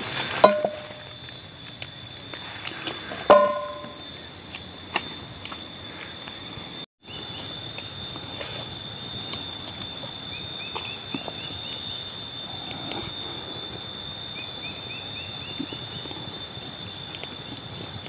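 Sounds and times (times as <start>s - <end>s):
bird chirping: 3.3s - 17.9s.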